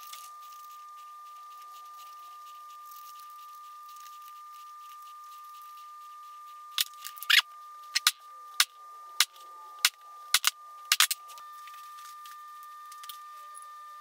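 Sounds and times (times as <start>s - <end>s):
steady high-pitched tone: 0.0s - 14.0s.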